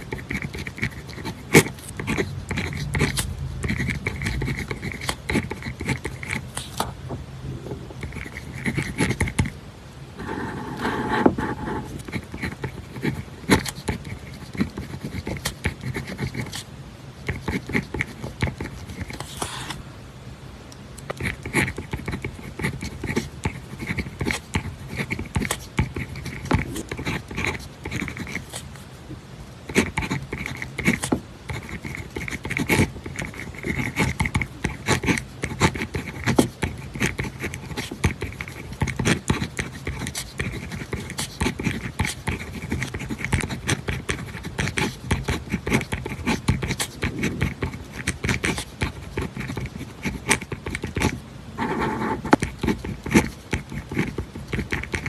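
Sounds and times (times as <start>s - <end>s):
pen scratching on paper: 0.0s - 6.8s, 7.9s - 9.6s, 10.2s - 19.8s, 21.1s - 28.9s, 29.7s - 55.0s.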